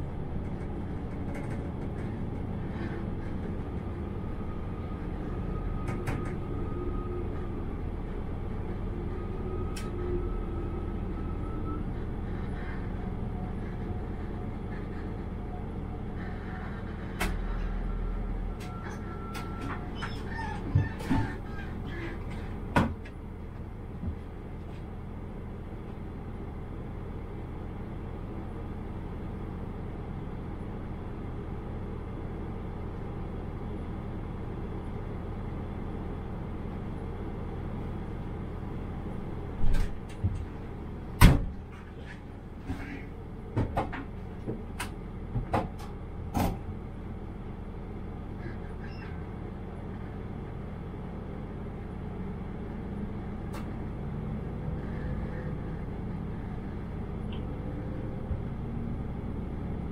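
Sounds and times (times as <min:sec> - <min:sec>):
diesel railcar idling: 0:00.0 - 0:59.9.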